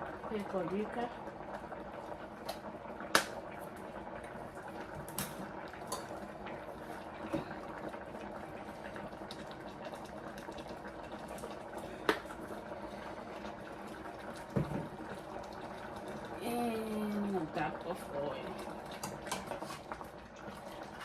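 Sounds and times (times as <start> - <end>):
pot boiling and bubbling: 0.0 - 21.0.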